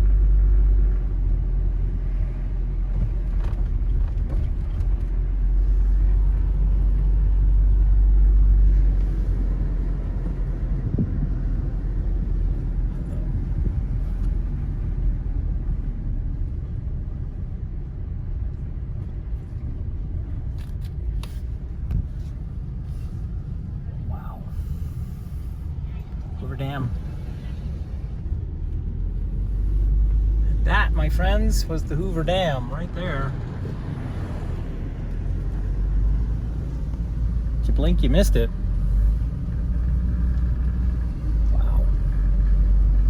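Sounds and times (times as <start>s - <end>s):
van engine and tyres rumbling: 0.0s - 43.0s.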